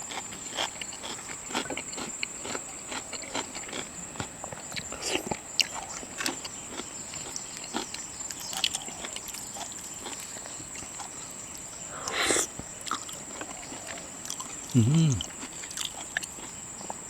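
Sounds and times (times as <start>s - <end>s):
loud noisy eating sound: 0.0s - 16.6s
chewing and handling shellfish: 0.0s - 17.0s.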